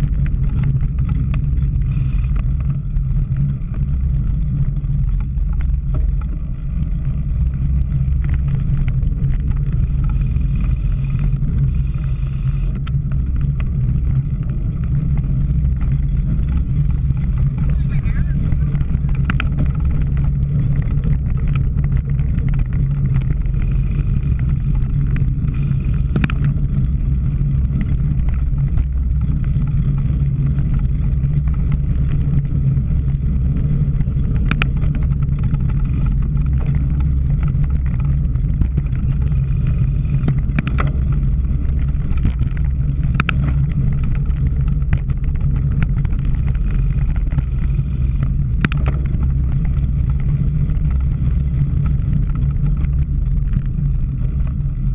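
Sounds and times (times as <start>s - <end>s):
bike clicks and knocks: 0.0s - 11.7s, 12.7s - 54.9s
wind and road rumble: 0.0s - 54.9s.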